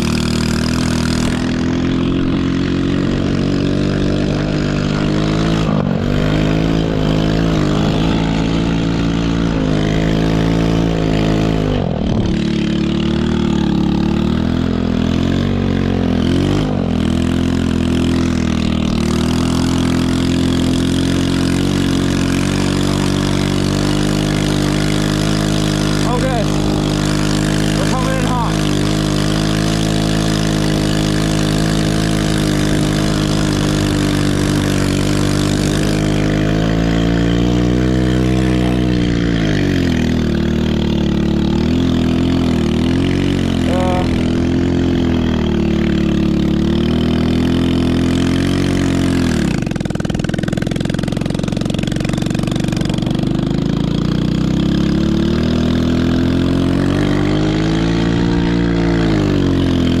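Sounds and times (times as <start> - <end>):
small engine under changing throttle: 0.0 - 60.0.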